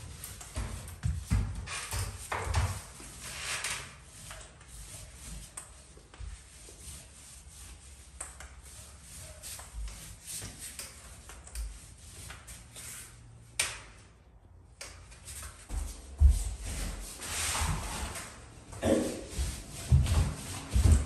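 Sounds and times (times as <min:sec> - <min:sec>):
paint roller on wall: 0:00.0 - 0:14.0, 0:14.8 - 0:21.0.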